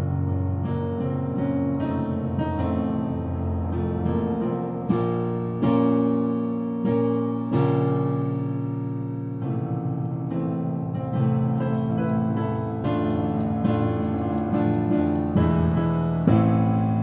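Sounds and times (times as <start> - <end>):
piano playing: 0.0 - 17.0.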